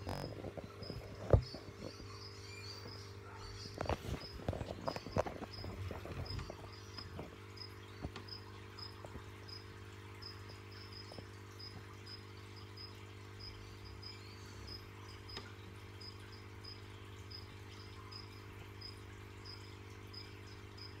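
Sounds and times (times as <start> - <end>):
cricket chirping: 0.0 - 9.6, 10.2 - 21.0.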